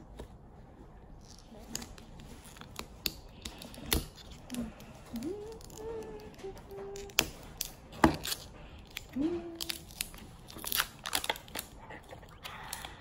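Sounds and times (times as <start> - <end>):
plastic wrapping crinkling and tearing: 1.2 - 13.0.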